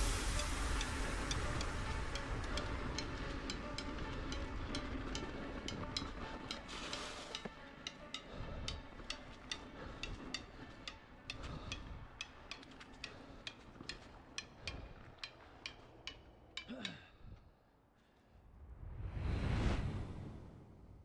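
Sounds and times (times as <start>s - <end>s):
bike ticking and rattling: 0.0s - 17.0s.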